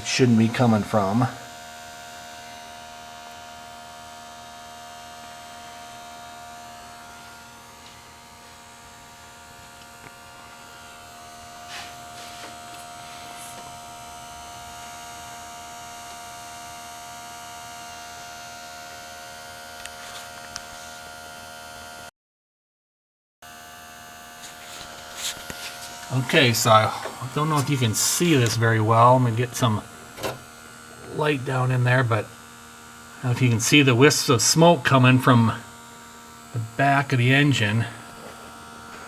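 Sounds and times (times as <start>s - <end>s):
electric air pump humming: 0.0s - 22.1s, 23.5s - 39.0s.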